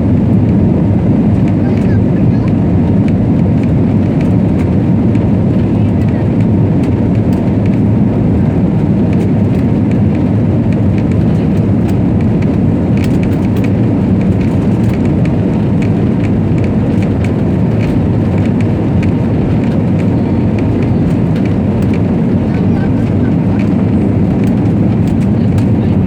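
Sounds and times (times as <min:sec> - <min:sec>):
airliner engine and airflow rush: 0:00.0 - 0:26.0.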